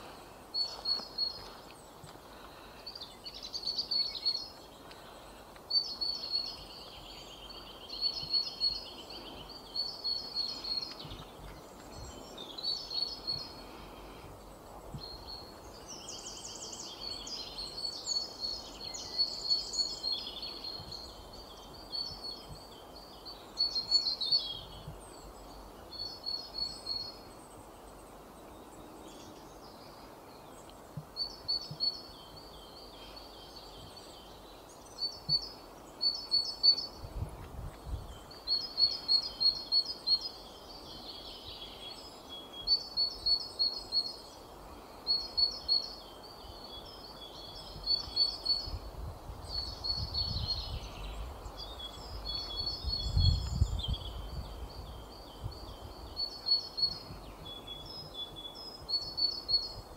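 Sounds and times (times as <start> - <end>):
background hiss: 0.0 - 59.9
songbirds chirping: 0.0 - 59.9.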